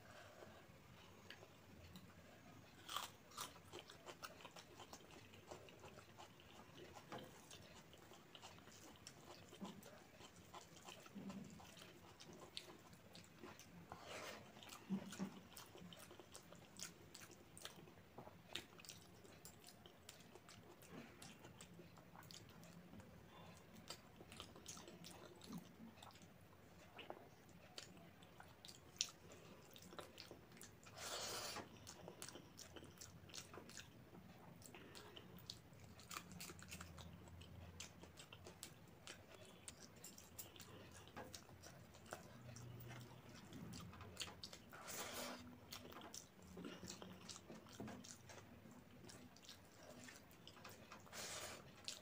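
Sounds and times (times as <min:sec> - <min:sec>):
wet chewing: 0:01.0 - 0:52.0.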